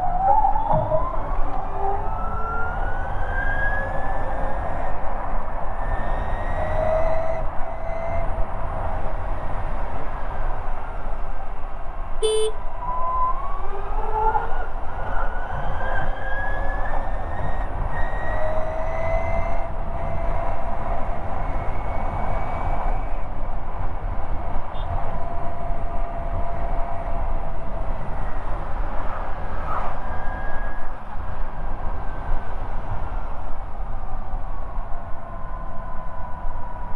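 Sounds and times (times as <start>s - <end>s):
wind and road rumble: 0.0s - 36.9s.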